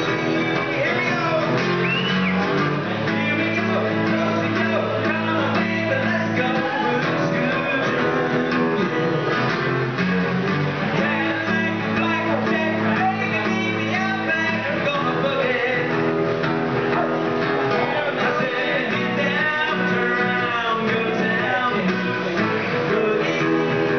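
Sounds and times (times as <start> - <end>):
man singing: 0.0 - 9.5, 10.9 - 23.9
acoustic guitar strumming: 0.0 - 23.9.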